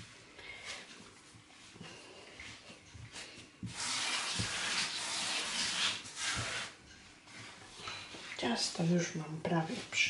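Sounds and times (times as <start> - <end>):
dough kneading rustle: 0.0 - 10.0.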